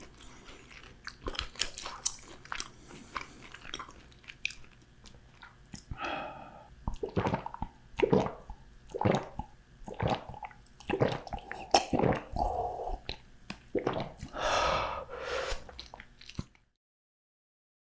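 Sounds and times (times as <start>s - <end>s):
wet squishy chewing: 0.0s - 6.1s, 6.8s - 14.4s, 15.6s - 16.7s.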